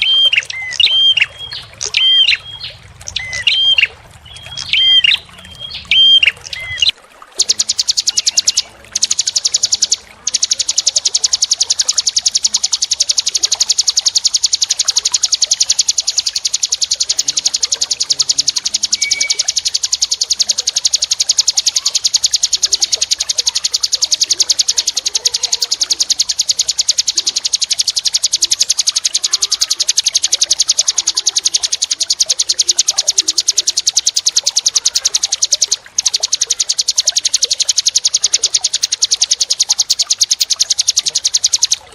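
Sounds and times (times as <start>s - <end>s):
songbird trilling: 0.0s - 41.9s.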